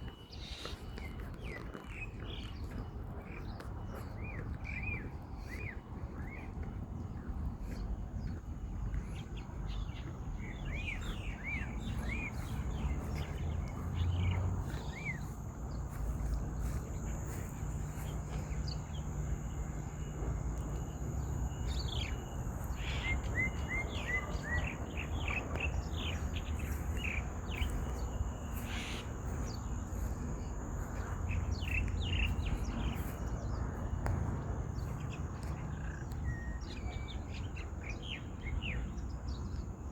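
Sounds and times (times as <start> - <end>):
faint high whine: 0.0 - 39.1
low outdoor rumble: 0.0 - 39.7
small birds chirping: 0.0 - 39.7.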